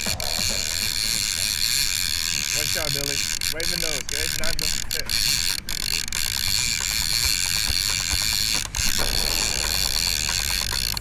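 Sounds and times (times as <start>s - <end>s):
fishing reel gears ticking: 0.0s - 11.0s.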